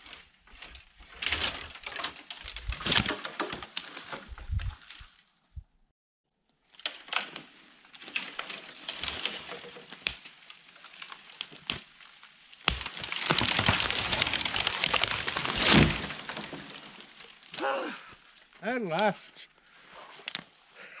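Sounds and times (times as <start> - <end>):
dry wood cracking and snapping: 0.0 - 5.2, 6.6 - 19.1, 20.2 - 20.6.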